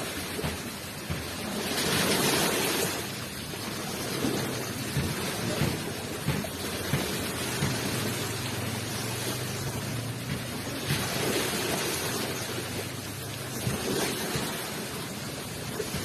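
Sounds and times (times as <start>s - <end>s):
ocean waves on shore: 0.0s - 16.0s.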